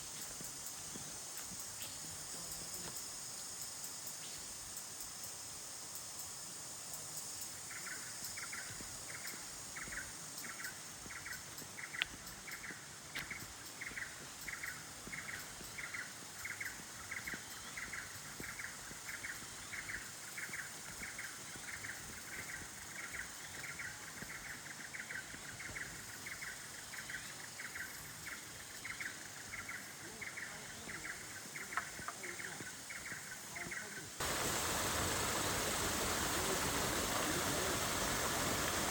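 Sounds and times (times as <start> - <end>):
steady high hiss: 0.0 - 38.9.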